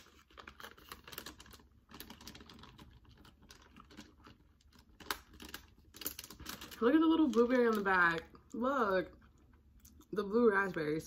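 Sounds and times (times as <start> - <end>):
plastic candy pouch crinkling: 0.0 - 10.2.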